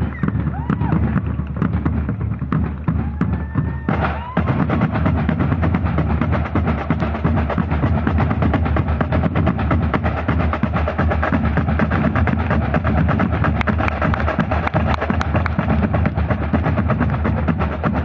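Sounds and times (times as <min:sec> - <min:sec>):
snare and bass drums playing: 0:00.0 - 0:18.0.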